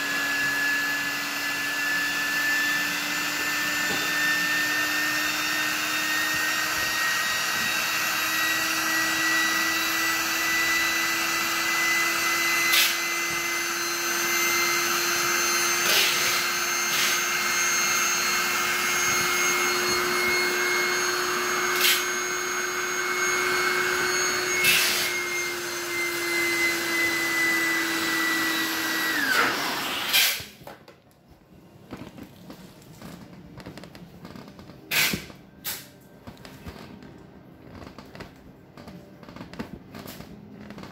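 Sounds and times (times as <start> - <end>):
electric air pump humming: 0.0 - 30.7, 31.6 - 40.9.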